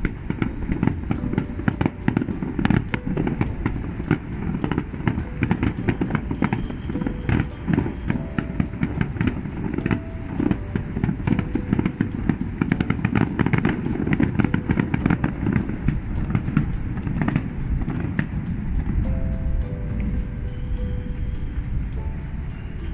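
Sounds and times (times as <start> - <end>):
fireworks bangs and crackles: 0.0 - 19.1.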